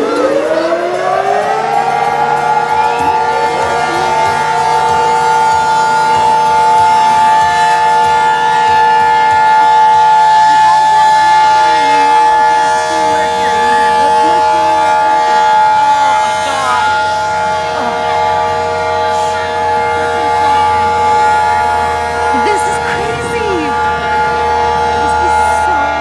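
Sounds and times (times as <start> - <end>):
faint voices: 0.0 - 26.0
warning sirens: 0.0 - 26.0.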